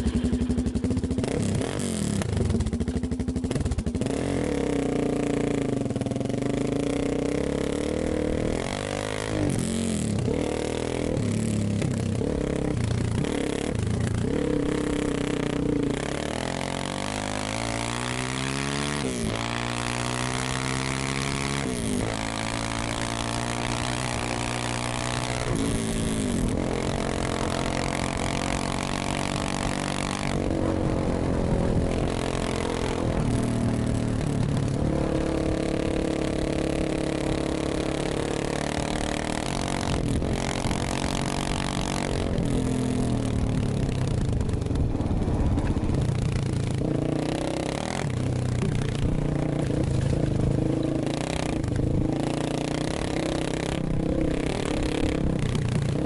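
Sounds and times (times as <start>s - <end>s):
dirt bike engine accelerating: 0.0s - 56.0s.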